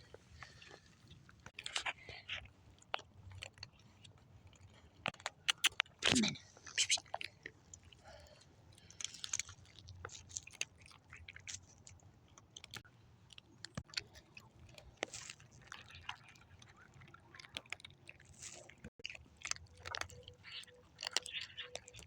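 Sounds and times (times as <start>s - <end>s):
cats chewing food: 0.0s - 22.0s.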